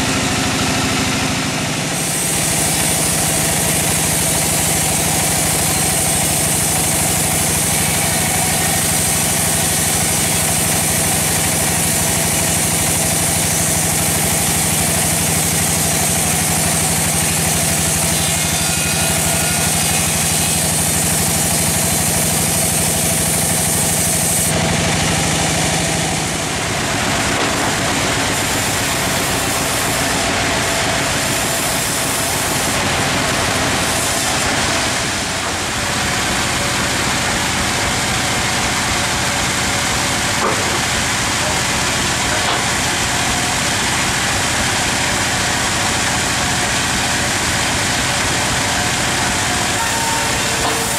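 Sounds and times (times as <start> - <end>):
saw blade high whine: 0.0 - 39.9, 43.0 - 50.9
band saw motor hum: 0.0 - 50.9
rough hissy machine noise: 0.0 - 50.9.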